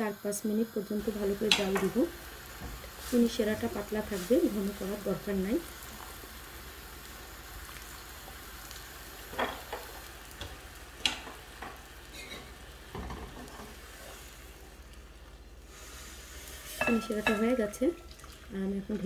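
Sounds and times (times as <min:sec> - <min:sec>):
syrup boiling in a pan: 0:00.0 - 0:19.0.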